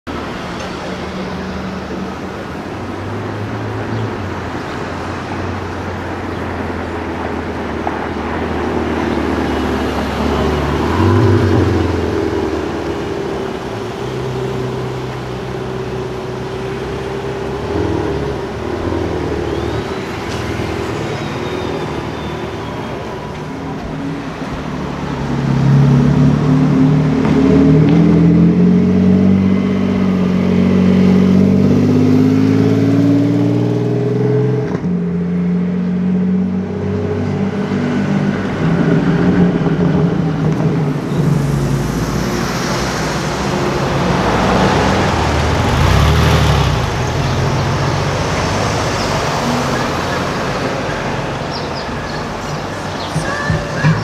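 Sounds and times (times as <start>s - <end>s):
passing car engine: 0.1s - 54.0s
sports car engines: 0.1s - 54.0s
engine revving: 8.0s - 22.4s, 24.2s - 54.0s.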